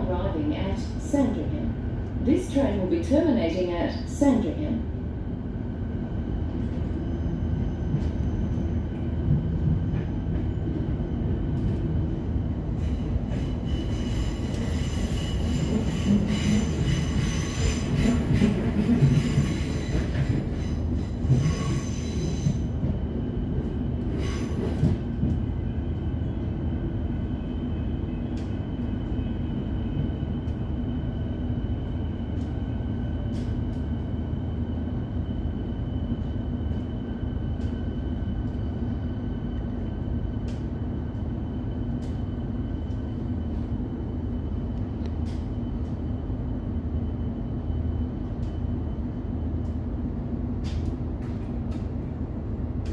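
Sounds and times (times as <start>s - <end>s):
electric train rumbling: 0.0s - 52.9s.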